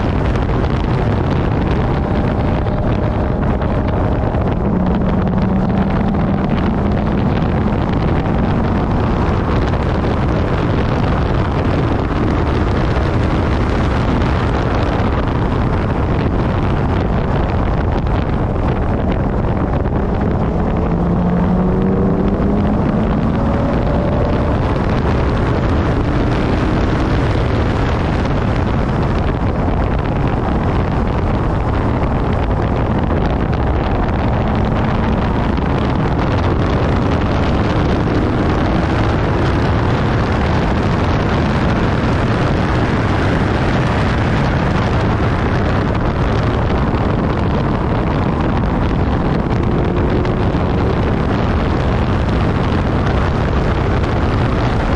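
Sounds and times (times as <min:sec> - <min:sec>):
car engine accelerating: 0:00.0 - 0:54.9
wind rush on microphone: 0:00.0 - 0:54.9.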